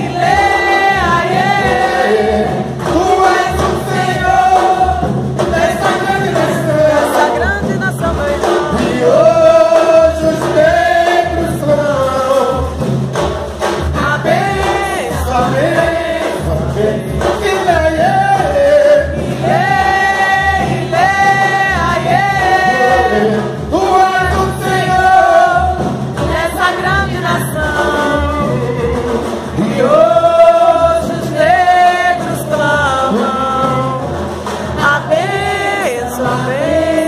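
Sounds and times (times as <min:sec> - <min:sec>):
choir singing long notes: 0:00.0 - 0:07.4, 0:08.4 - 0:12.4, 0:13.9 - 0:37.0
large drums beating: 0:00.0 - 0:37.0.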